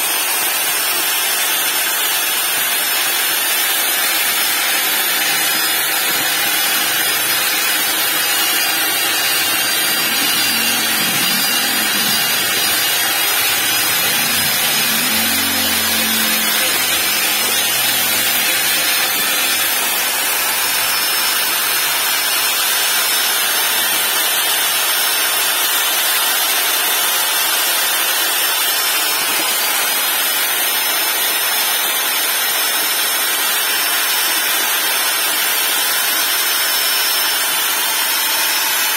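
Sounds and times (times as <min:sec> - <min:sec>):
electric drill mixing paddle: 0:00.0 - 0:38.9.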